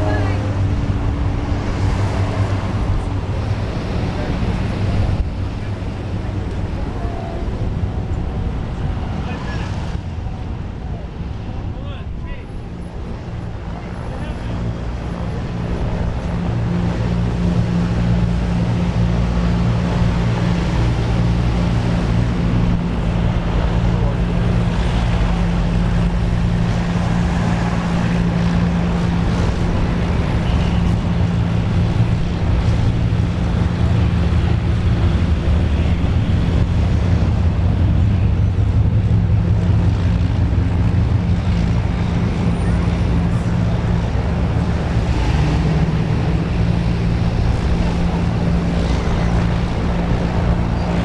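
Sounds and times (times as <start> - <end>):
propeller aircraft engines droning: 0.0 - 51.0.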